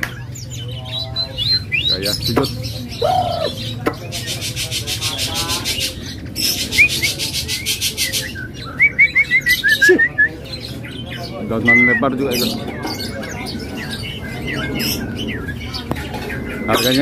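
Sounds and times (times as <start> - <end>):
bird singing buzzy trills: 0.1 - 17.0.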